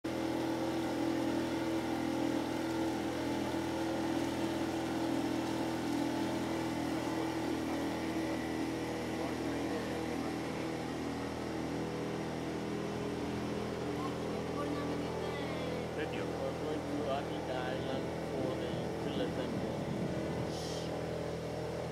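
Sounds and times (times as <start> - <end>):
motorboat engine droning: 0.0 - 21.9.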